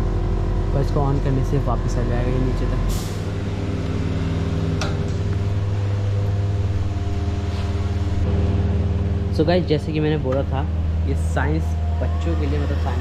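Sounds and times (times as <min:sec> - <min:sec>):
low mechanical motor hum: 0:00.0 - 0:13.0.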